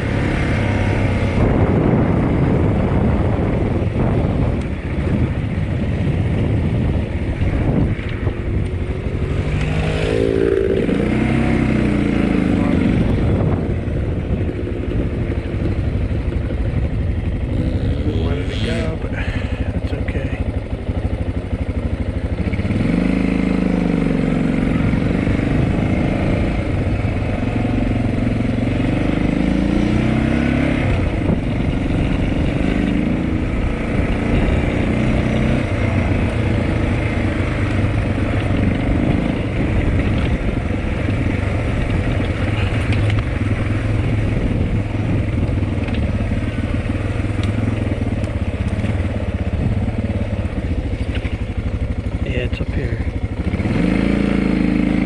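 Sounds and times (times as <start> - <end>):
dirt bike engine revving: 7.5 - 16.3, 17.3 - 20.4, 22.4 - 55.0.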